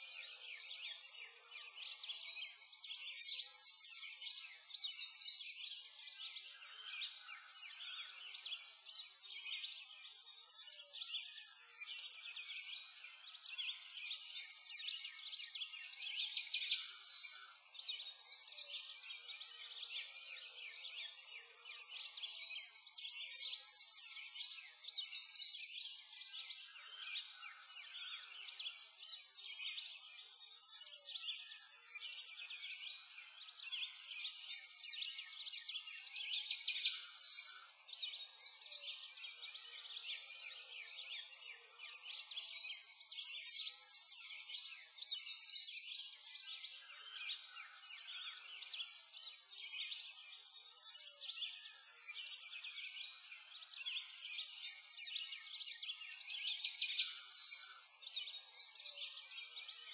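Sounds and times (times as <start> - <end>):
chorus of birds chirping: 0.0 - 59.9.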